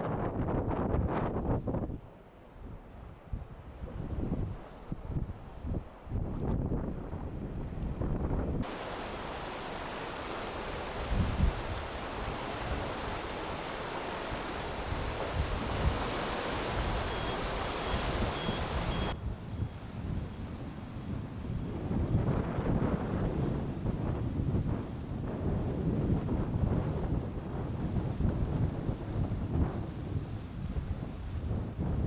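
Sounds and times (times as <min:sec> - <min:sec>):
wind buffeting microphone: 0:00.0 - 0:32.0
surf and breaking waves: 0:02.0 - 0:32.0.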